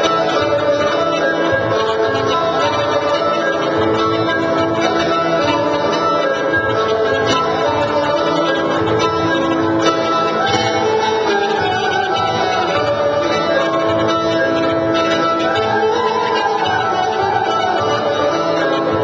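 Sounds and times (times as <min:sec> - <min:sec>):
folk dance music: 0:00.0 - 0:19.0.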